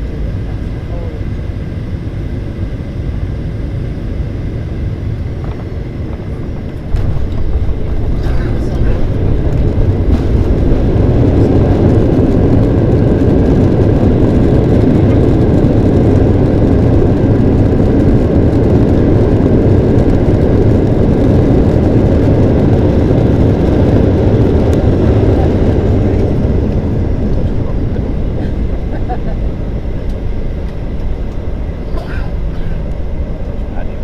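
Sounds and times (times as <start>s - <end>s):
airplane landing roar in cabin: 0.0s - 34.0s.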